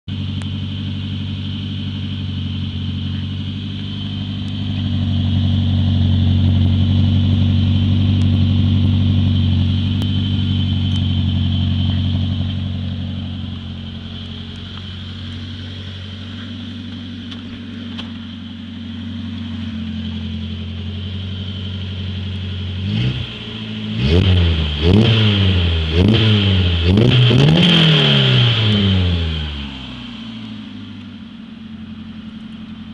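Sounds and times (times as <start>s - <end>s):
car engine idling and revving: 0.0s - 32.9s.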